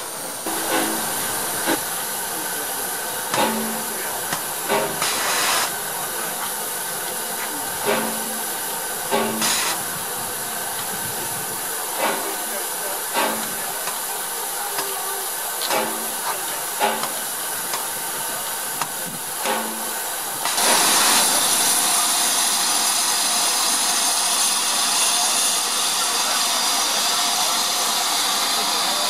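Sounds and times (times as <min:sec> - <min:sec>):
rush of escaping steam: 0:00.0 - 0:29.0
steam locomotive hissing: 0:00.0 - 0:29.0.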